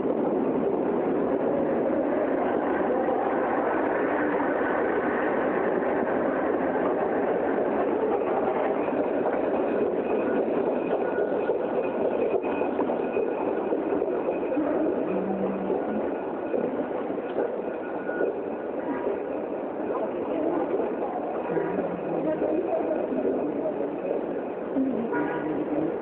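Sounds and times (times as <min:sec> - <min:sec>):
escalator mechanical running noise: 0:00.0 - 0:26.0
faint high whine: 0:00.0 - 0:26.0.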